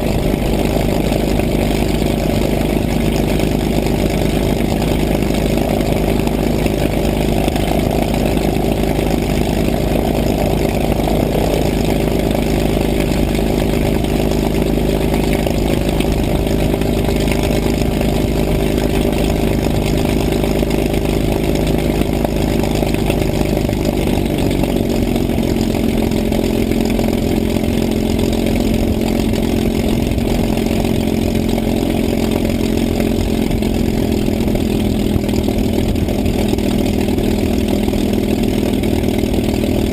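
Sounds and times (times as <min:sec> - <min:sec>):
piston engine running: 0:00.0 - 0:39.9.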